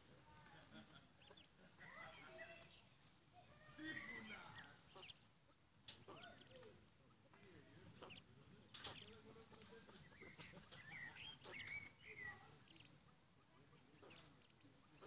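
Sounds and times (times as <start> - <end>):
quail chirping: 0.7 - 2.9, 3.8 - 15.0.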